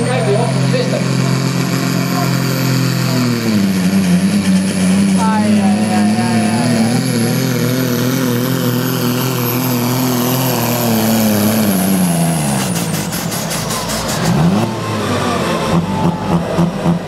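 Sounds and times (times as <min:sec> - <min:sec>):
tractor engine running flat out: 0:00.0 - 0:17.0.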